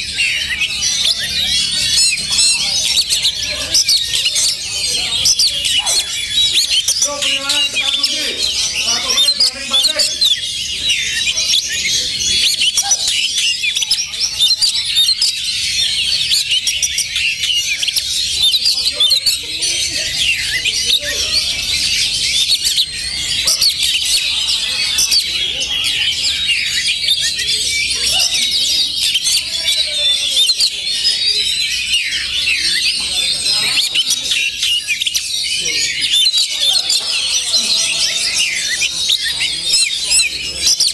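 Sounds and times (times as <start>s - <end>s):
birds singing in chorus: 0.0s - 40.9s.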